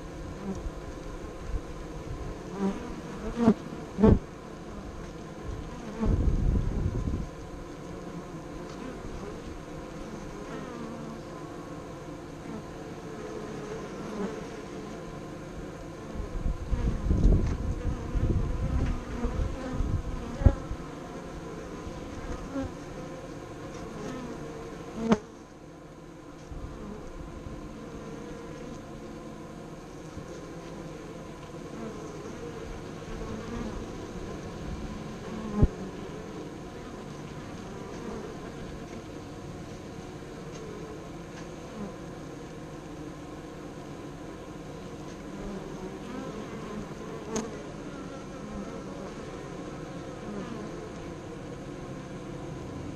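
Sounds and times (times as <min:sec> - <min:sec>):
bees buzzing: 0:00.0 - 0:52.9.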